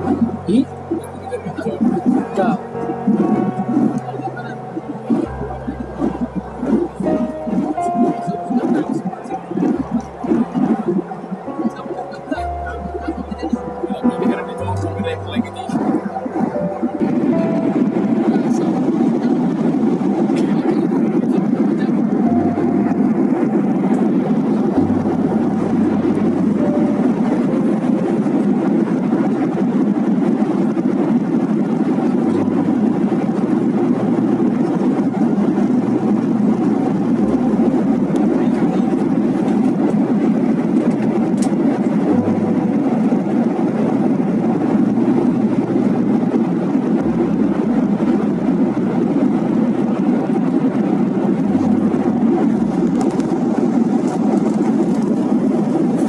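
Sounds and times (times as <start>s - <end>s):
jet cabin engine and airflow noise: 0.0s - 56.0s.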